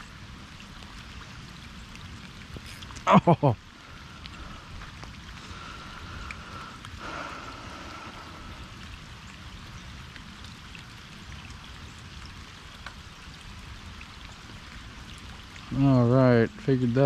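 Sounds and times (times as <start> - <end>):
rain hissing on water: 0.0 - 17.0
raindrops ticking: 0.0 - 17.0.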